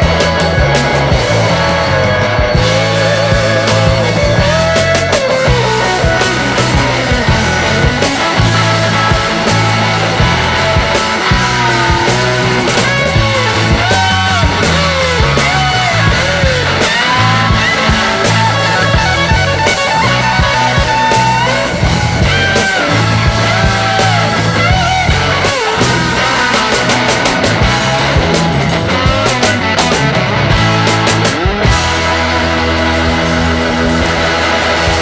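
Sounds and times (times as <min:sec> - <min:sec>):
rock music with electric guitar: 0:00.0 - 0:35.0
steady bass line: 0:00.0 - 0:35.0.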